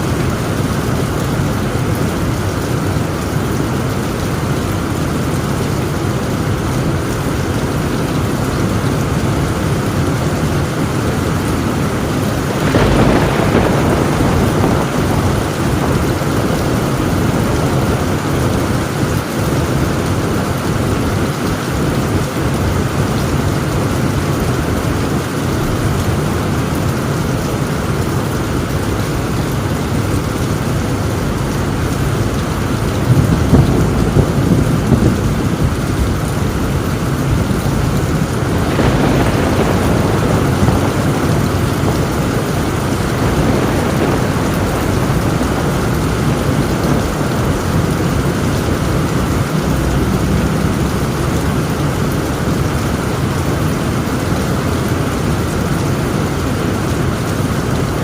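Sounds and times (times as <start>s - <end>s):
thunder rumbling: 0.0s - 58.0s
torrential rain on a tin roof: 0.0s - 58.0s.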